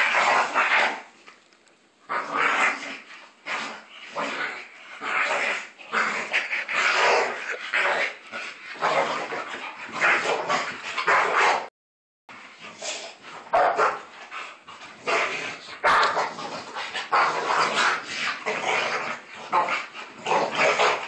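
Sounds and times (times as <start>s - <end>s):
dogs growling and barking: 0.0s - 1.2s, 2.0s - 11.7s, 12.3s - 21.0s.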